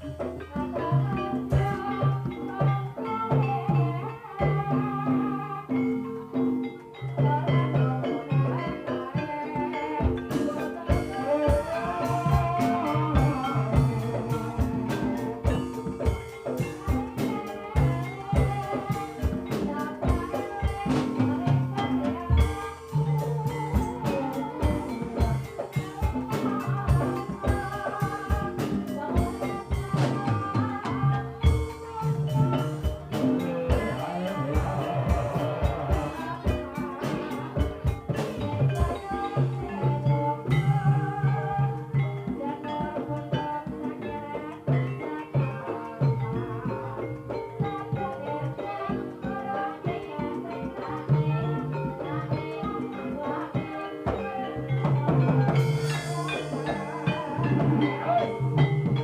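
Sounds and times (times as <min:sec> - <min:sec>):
drums beating: 0:00.0 - 0:59.0
metallophones ringing melody: 0:00.0 - 0:59.0
person singing: 0:00.0 - 0:59.0.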